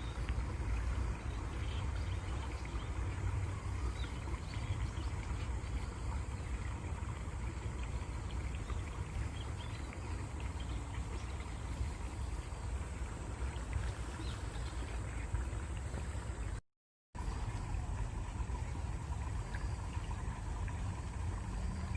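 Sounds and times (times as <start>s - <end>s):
stream water running: 0.0s - 21.9s.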